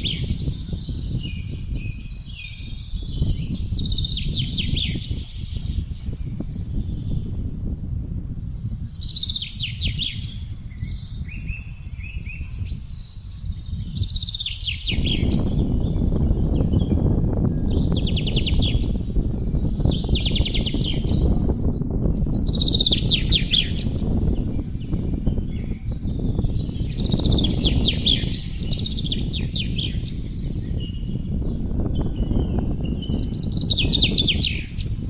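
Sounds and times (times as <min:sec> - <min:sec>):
songbirds trilling: 0:00.0 - 0:35.0
wind rushing: 0:00.0 - 0:35.0.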